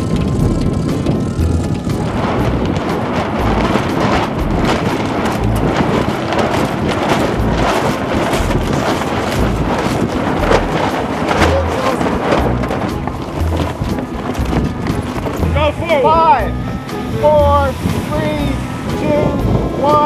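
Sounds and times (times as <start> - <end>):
low thumps from gusts: 0.0 - 20.0
strong wind buffeting microphone: 0.0 - 20.0.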